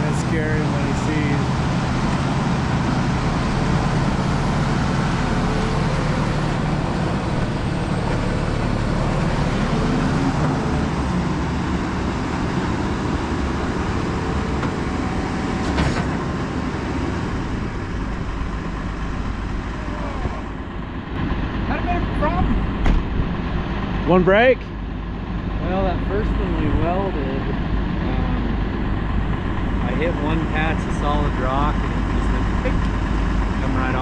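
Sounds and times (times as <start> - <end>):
machine engine running steadily: 0.0 - 34.0.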